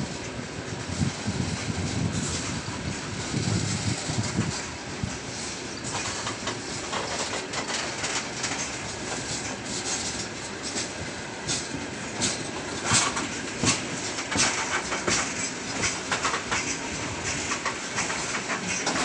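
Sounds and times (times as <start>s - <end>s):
freight train wagons rolling: 0.0s - 19.0s
wheels clicking over rail joints: 0.0s - 19.0s.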